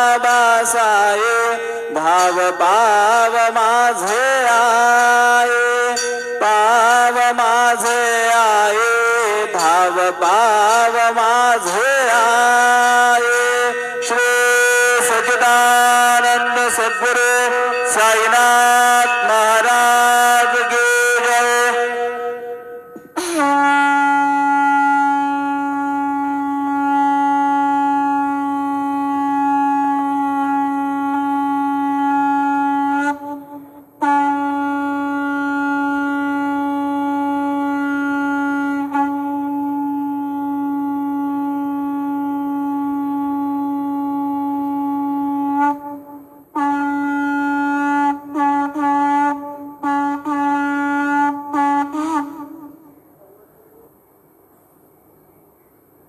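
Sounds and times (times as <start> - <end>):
conch shell blasts: 1.7 - 53.0.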